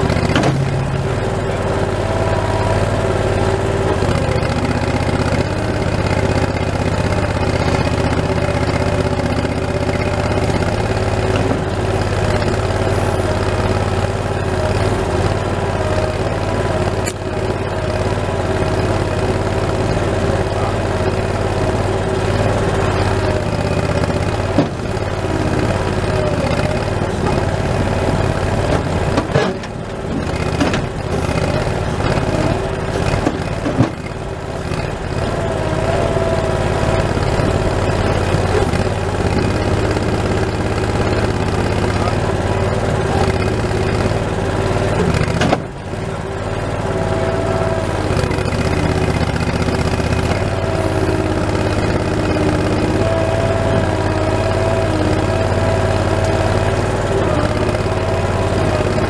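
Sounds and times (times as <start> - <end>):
loader engine running: 0.0 - 59.0.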